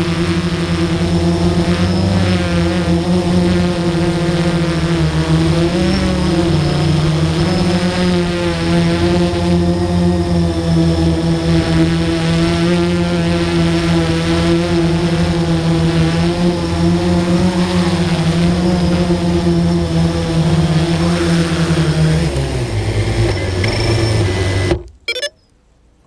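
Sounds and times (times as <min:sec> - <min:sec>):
drone motors humming: 0:00.0 - 0:25.4.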